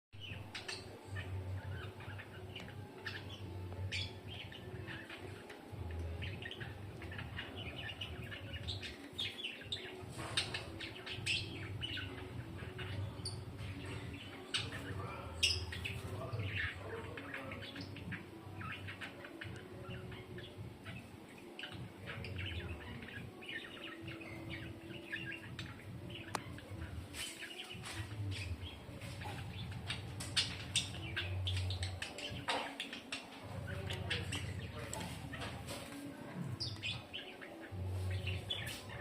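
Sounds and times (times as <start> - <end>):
birds chirping: 0.1 - 39.0.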